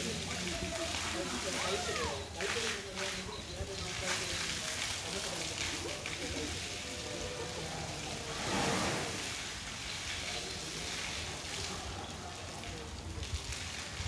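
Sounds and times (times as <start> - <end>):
hose water gushing and splashing: 0.0 - 14.0.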